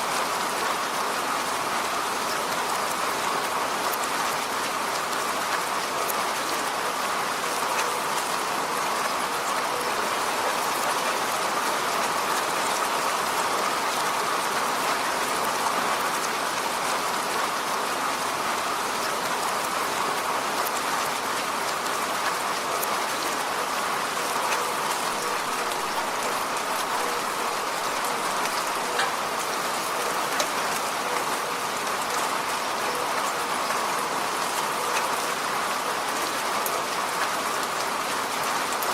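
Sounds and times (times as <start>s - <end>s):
rain falling on road: 0.0s - 38.9s.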